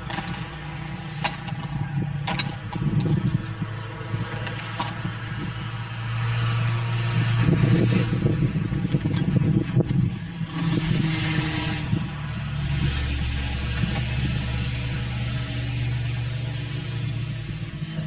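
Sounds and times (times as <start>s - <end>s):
grinding mill engine humming: 0.0s - 18.0s.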